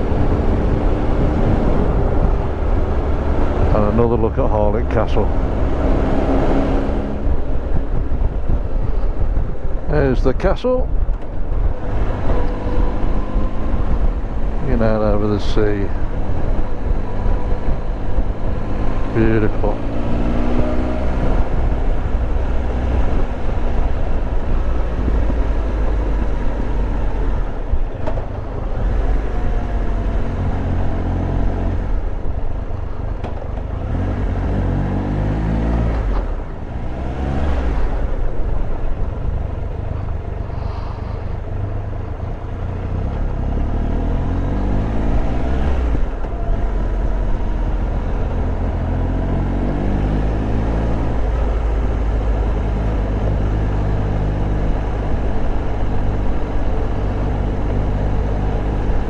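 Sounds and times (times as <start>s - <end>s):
motorcycle engine accelerating: 0.0s - 10.2s, 16.0s - 59.0s.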